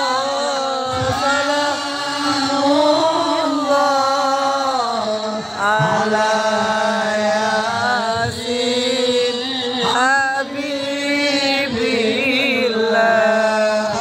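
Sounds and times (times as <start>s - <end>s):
person chanting devotional song: 0.0s - 14.0s.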